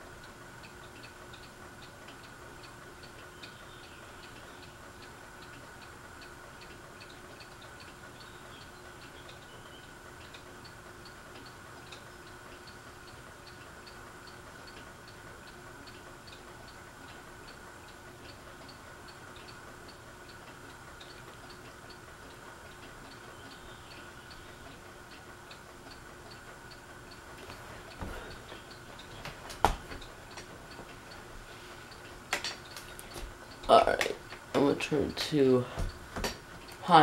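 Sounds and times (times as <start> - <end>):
ceiling fan motor hum: 0.0 - 37.0
fan light ticking: 0.0 - 37.0.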